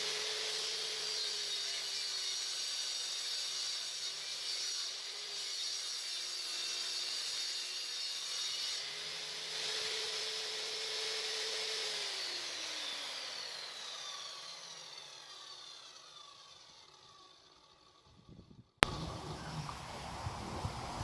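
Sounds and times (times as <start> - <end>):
table saw whine spinning down: 0.0 - 5.4, 8.8 - 18.0, 18.8 - 21.0.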